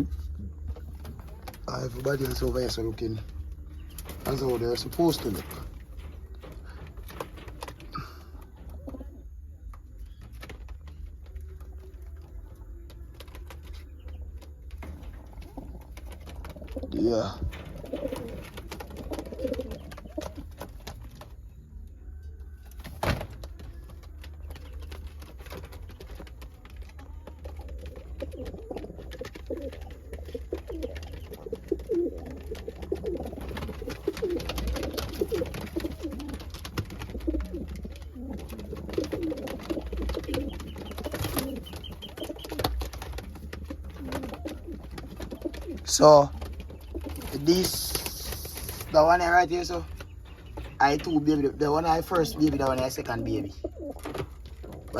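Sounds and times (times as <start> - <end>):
pigeons cooing: 0.0 - 21.4, 22.8 - 54.9.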